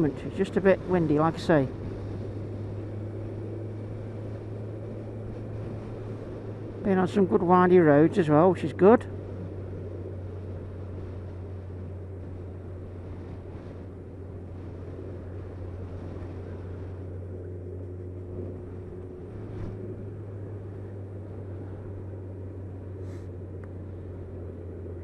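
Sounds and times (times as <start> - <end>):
motorcycle engine drone: 0.0 - 25.0
wind rushing over microphone: 0.0 - 25.0.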